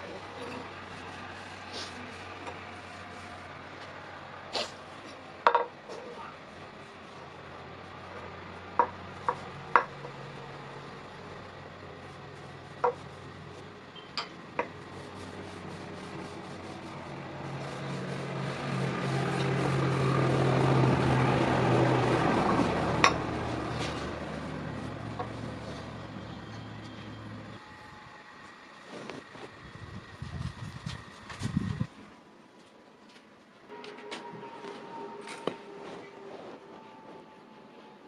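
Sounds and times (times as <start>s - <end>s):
vehicle passing by: 0.0s - 5.4s, 6.0s - 31.9s.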